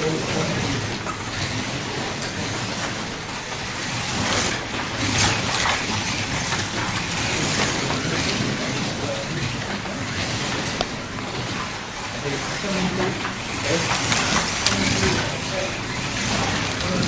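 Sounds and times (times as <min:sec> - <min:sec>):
slot cars whirring: 0:00.0 - 0:17.0.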